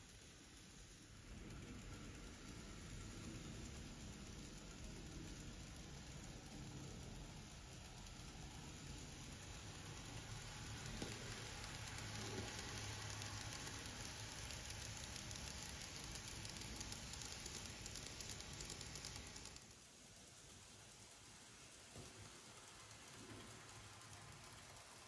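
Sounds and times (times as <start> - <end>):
model train wheels rattling: 0.0 - 25.0.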